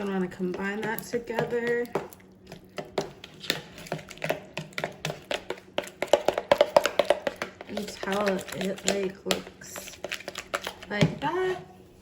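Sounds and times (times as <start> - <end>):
wet squishing of stirred marinade: 0.0 - 12.0
utensil clicking against bowl: 0.4 - 10.9.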